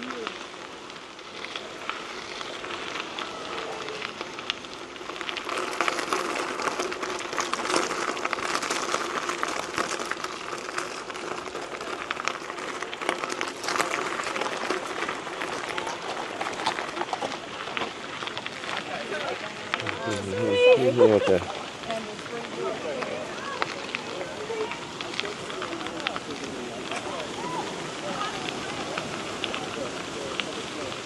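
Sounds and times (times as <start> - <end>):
bike tyres rolling over gravel: 0.0 - 31.0.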